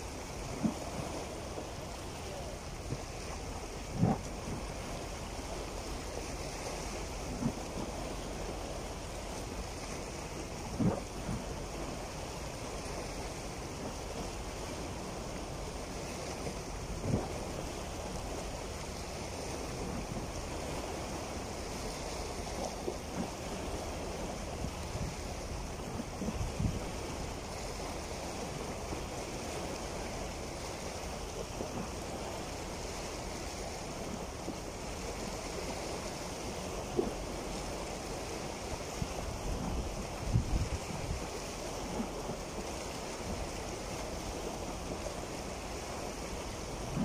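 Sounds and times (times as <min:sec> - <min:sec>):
waves splashing over rocks: 0:00.0 - 0:47.0
wind on microphone: 0:00.0 - 0:47.0.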